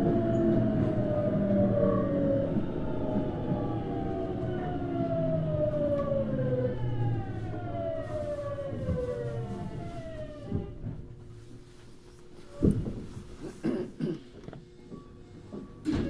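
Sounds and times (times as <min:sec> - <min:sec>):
wheels rumbling on rails: 0:00.0 - 0:13.5.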